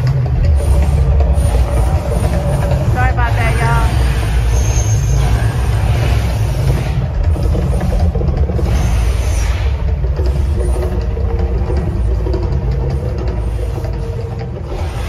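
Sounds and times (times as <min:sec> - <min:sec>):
loud deep rumble: 0:00.0 - 0:15.0
noisy rushes: 0:00.0 - 0:15.0.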